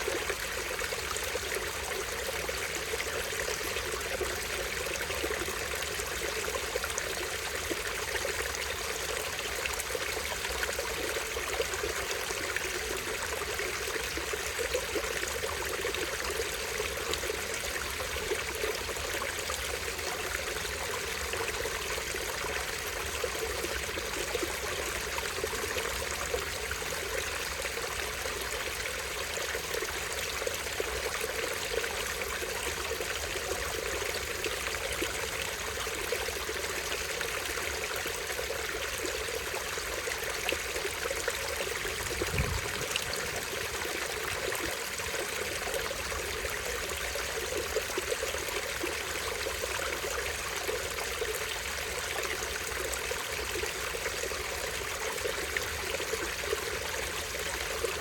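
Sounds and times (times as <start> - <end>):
stream babbling over small waterfall: 0.0 - 58.0.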